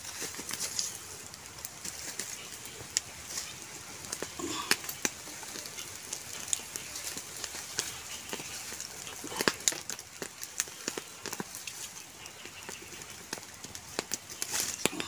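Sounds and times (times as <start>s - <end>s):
campfire crackling and popping: 0.0s - 15.0s
embers raked with a stick: 0.0s - 15.0s.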